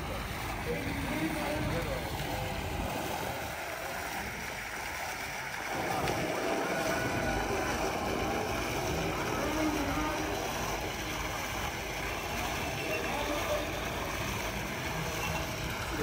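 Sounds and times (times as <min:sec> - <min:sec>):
fountain splashing into pool: 0:00.0 - 0:16.0.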